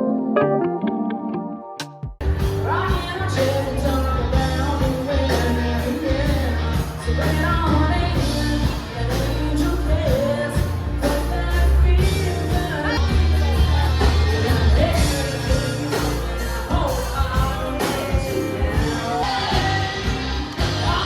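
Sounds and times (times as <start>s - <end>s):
pop-rock music with singing: 2.2s - 21.0s.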